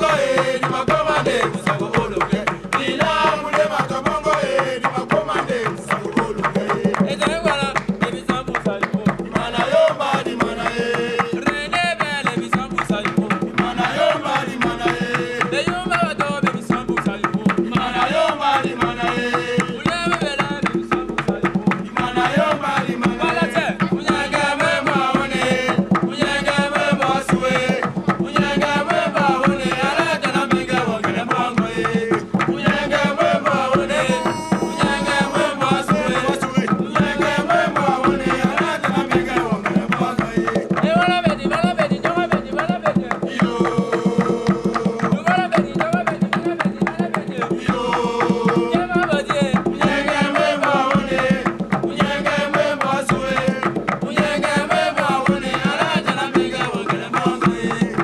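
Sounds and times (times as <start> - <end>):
group singing: 0.0 - 58.0
hand drums playing: 0.0 - 58.0.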